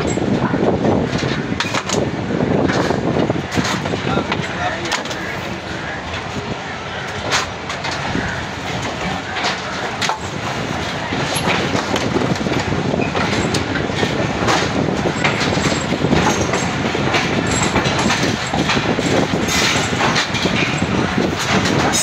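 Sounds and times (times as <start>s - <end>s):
train coaches rumbling: 0.0s - 22.0s
wheels clacking over rail joints: 0.0s - 22.0s.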